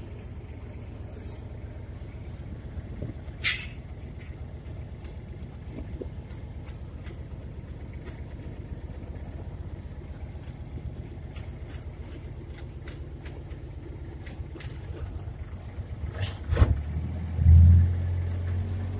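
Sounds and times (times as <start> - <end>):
vehicle engine idling: 0.0 - 18.9.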